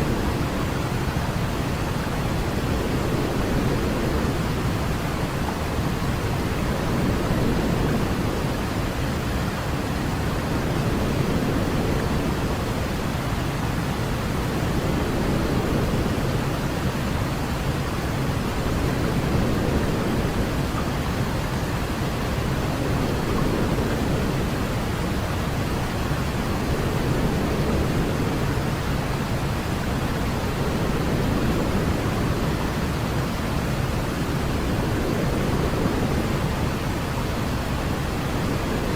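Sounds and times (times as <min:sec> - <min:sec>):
steady rumbling pink noise: 0:00.0 - 0:38.9.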